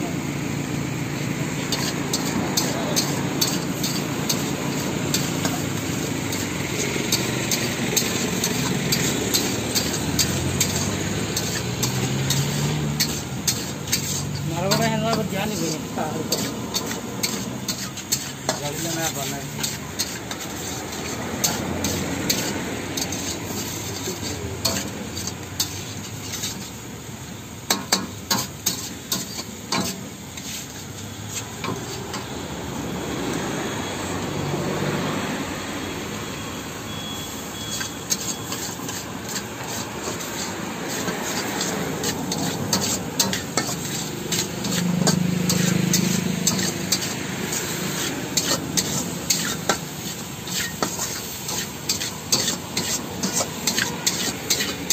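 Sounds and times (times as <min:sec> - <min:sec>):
frying sizzle: 0:00.0 - 0:54.9
spatula scraping a wok: 0:01.4 - 0:33.2, 0:36.3 - 0:54.9.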